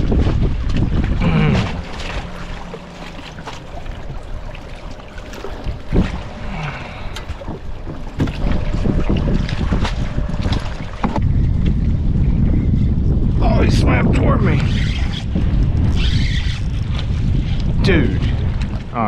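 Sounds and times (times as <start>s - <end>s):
water sloshing around kayak: 0.0s - 19.0s
wind buffeting microphone: 0.0s - 19.0s.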